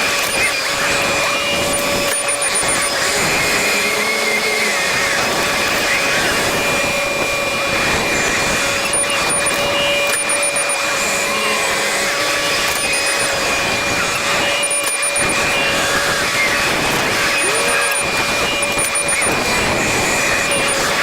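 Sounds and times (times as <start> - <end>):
steady whine: 0.0 - 21.0.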